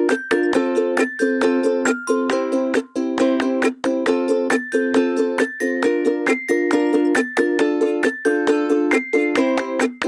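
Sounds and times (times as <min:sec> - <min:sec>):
plucked ukulele tune: 0:00.0 - 0:10.0.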